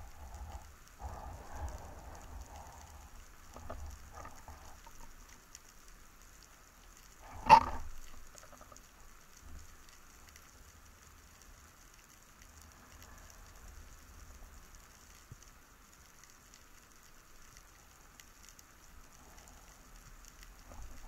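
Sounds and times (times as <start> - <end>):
light crackling: 0.0 - 21.0
underwater hiss and rumble: 0.0 - 21.0.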